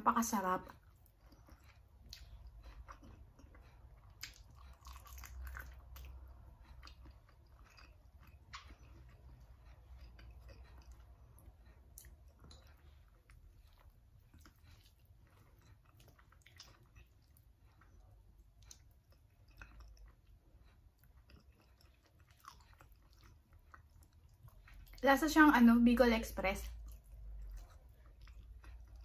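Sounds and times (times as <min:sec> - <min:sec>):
person chewing with wet clicks: 0:00.2 - 0:29.0.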